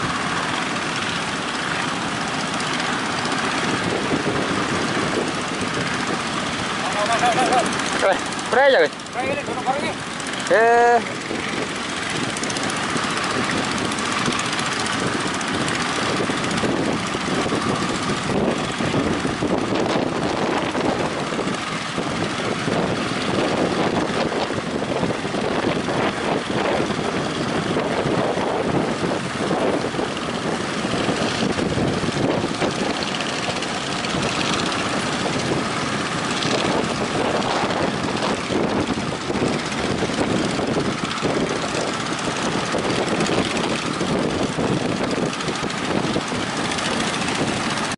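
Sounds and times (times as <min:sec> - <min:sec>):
wind on microphone: 0:00.0 - 0:47.9.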